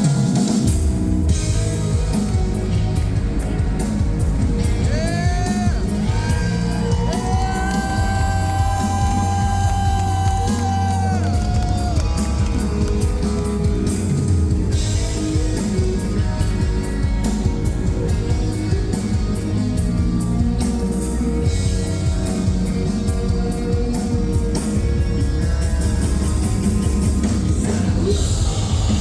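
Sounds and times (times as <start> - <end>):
live metal band playing: 0.0 - 29.0.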